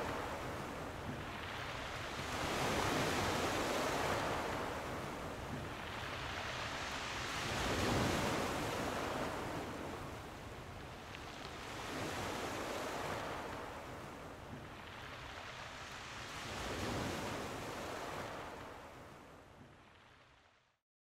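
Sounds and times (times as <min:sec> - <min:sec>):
ocean waves washing in: 0:00.0 - 0:20.7.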